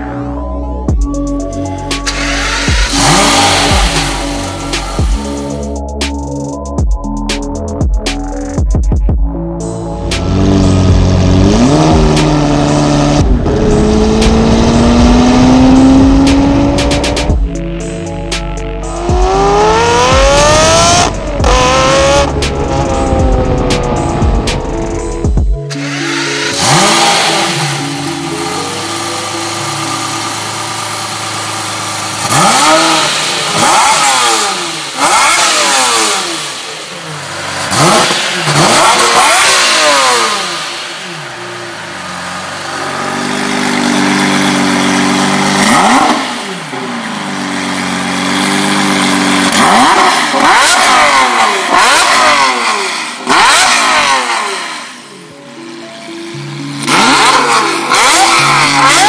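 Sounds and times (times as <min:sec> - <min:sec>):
sports car engine revving: 0:01.9 - 0:05.8, 0:10.0 - 0:59.0.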